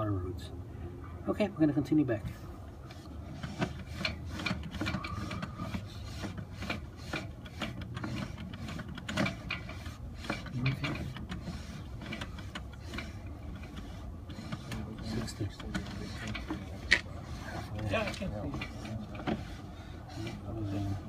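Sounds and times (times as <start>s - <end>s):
cable rubbing and scraping in pipe: 2.4s - 21.0s.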